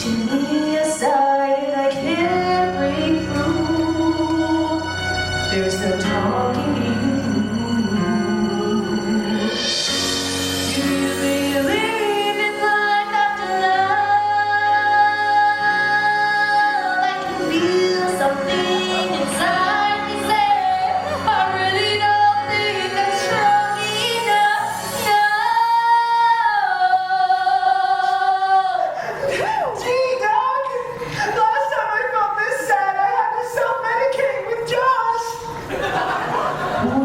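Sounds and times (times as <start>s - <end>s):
woman singing slow song: 0.0s - 9.8s, 10.7s - 30.9s
backing music: 0.0s - 31.4s, 34.1s - 37.0s.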